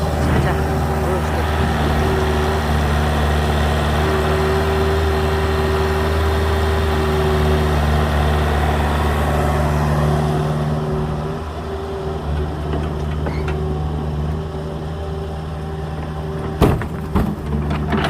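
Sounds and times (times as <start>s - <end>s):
engine humming steadily: 0.0s - 18.0s.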